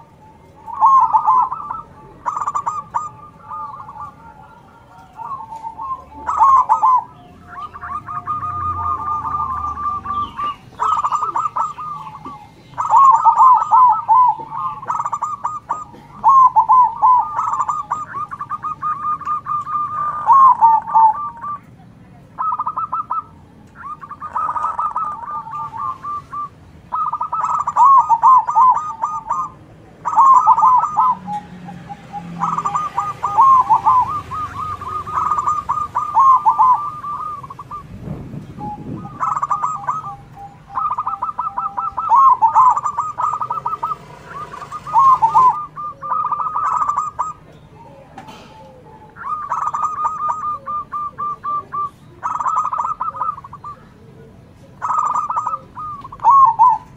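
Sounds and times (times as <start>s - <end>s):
doves cooing: 0.0s - 56.9s
small birds twittering: 0.0s - 56.9s.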